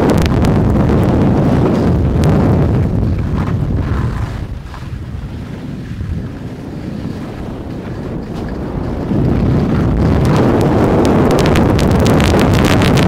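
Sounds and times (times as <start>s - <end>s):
skis scraping over snow: 0.0s - 13.0s
wind rushing over microphone: 0.0s - 13.0s.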